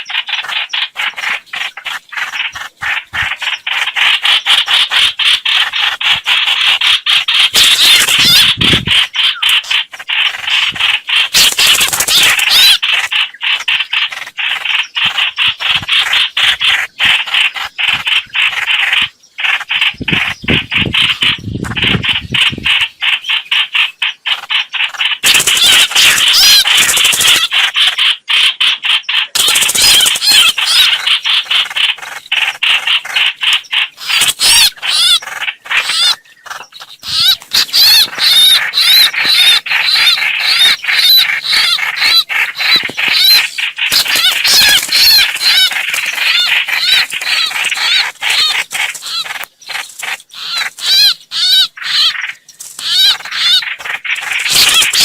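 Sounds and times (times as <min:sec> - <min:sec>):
bird chattering calls: 0:00.0 - 0:55.0.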